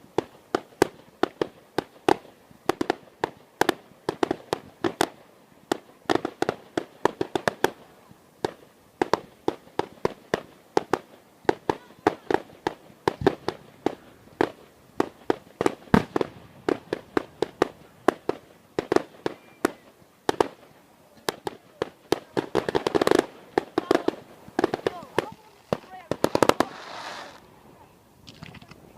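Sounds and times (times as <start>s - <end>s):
fireworks banging: 0.0s - 27.5s.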